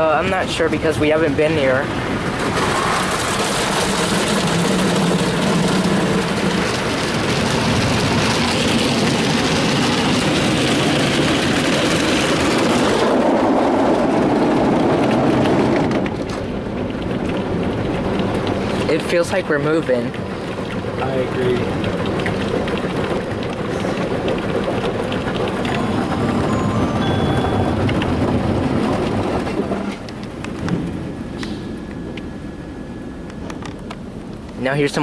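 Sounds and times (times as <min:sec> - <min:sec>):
low hum: 0:00.0 - 0:34.8
car wash water spray and brushes: 0:00.3 - 0:31.9.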